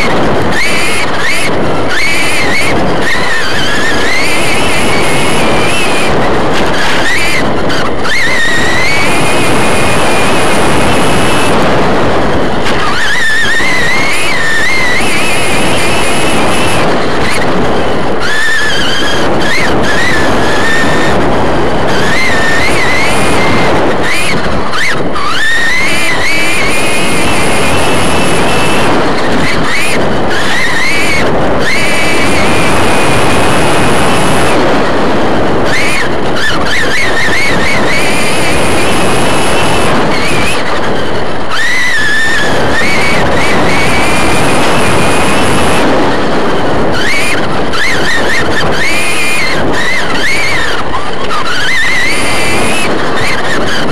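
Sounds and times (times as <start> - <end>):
rc truck motor whine: 0.0 - 53.9
wind and dirt noise: 0.0 - 53.9.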